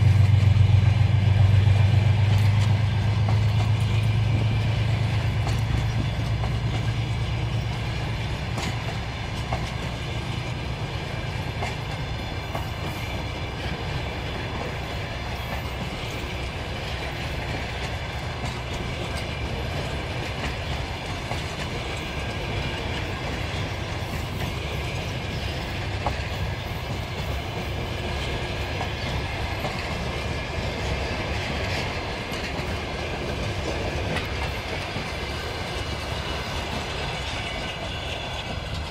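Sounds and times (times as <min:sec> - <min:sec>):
diesel locomotive drone: 0:00.0 - 0:38.9
train wheels clattering over rail joints: 0:00.0 - 0:38.9.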